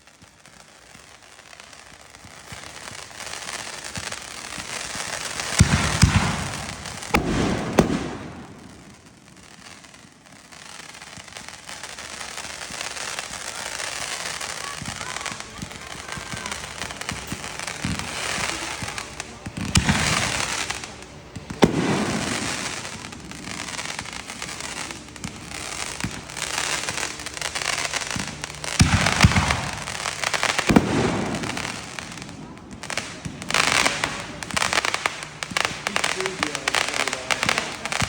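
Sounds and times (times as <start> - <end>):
fireworks bangs: 0.0 - 38.0
fireworks crackling: 0.0 - 38.0.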